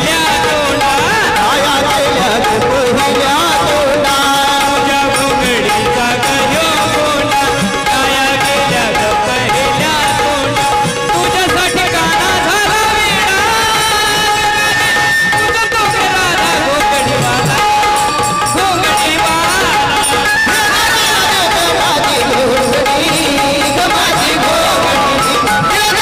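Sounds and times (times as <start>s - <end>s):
harmonium chords: 0.0s - 26.0s
man singing into microphone: 0.0s - 26.0s.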